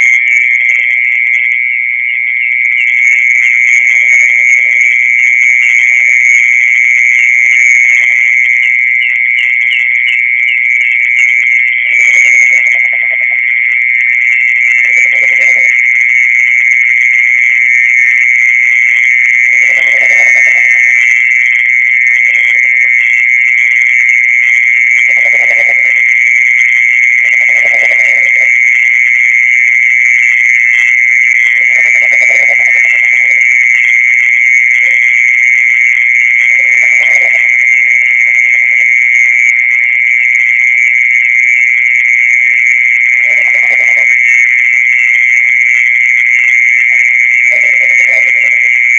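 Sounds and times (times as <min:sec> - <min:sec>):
lower soft insect call: 0:00.0 - 0:48.9
mole cricket trilling: 0:00.0 - 0:48.9.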